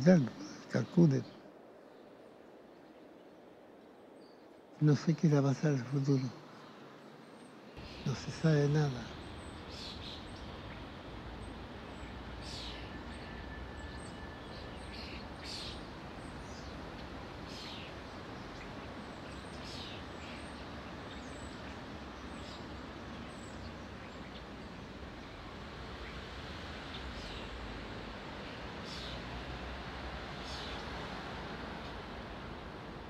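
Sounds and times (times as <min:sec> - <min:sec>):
distant environmental hum: 0:00.0 - 0:33.0
small birds chirping: 0:00.0 - 0:33.0.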